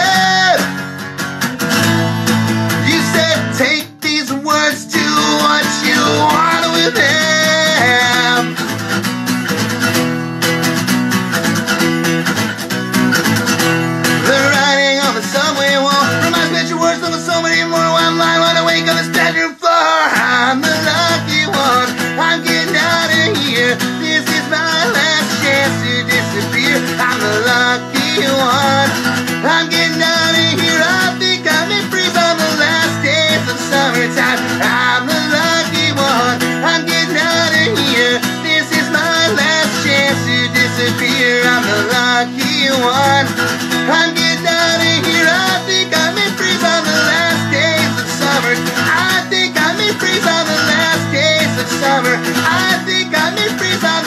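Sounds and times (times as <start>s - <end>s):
man singing: 0.0s - 1.0s, 1.8s - 9.0s, 14.0s - 54.0s
strummed acoustic guitar: 0.0s - 54.0s.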